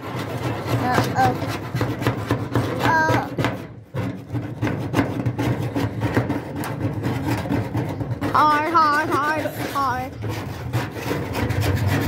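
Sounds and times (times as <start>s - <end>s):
scrapers scraping paint: 0.0s - 12.0s.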